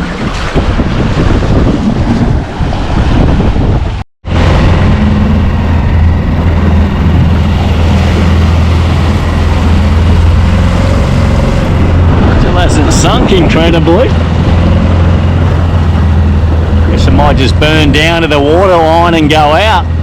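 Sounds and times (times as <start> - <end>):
outboard motor running: 0.0 - 20.0
wind buffeting microphone: 0.0 - 20.0.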